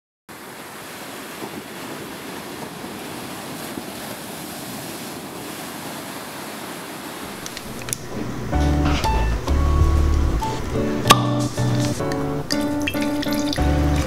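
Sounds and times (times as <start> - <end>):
ocean waves breaking: 0.3 - 14.0.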